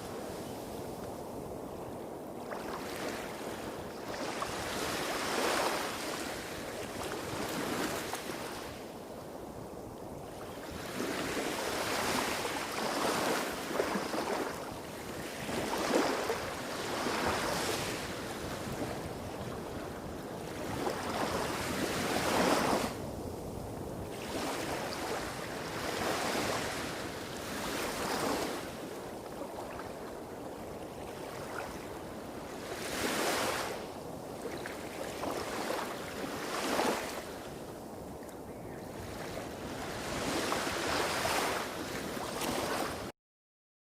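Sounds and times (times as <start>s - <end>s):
small waves washing on beach: 0.0s - 43.1s.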